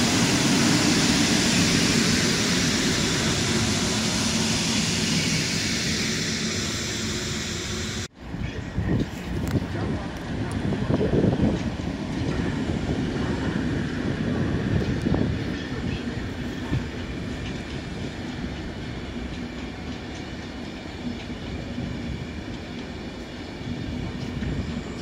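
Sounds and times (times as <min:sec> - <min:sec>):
train coaches rumbling past: 0:00.0 - 0:25.0.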